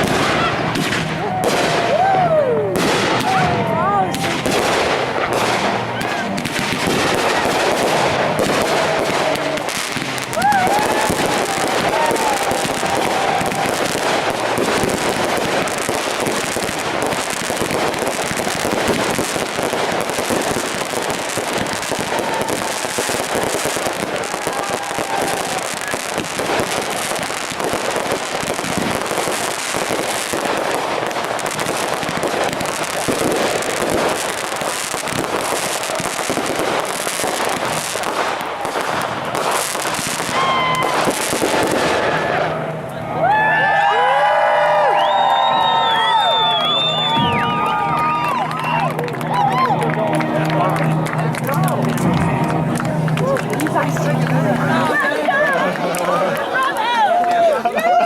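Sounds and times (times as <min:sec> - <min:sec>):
fireworks crackling and popping: 0:00.0 - 0:58.0.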